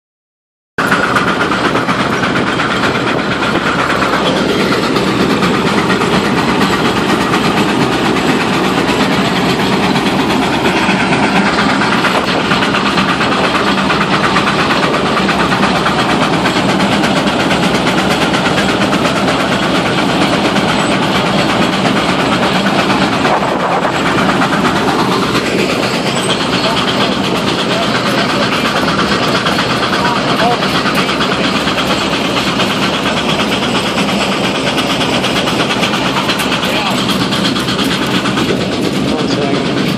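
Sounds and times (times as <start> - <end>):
steam traction engine running: 0.8 - 39.9.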